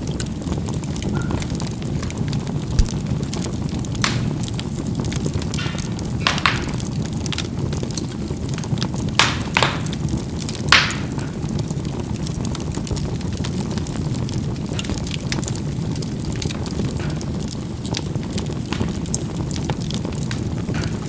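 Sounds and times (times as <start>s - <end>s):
burning charcoal popping: 0.0s - 21.0s
charcoal fire crackling: 0.0s - 21.0s.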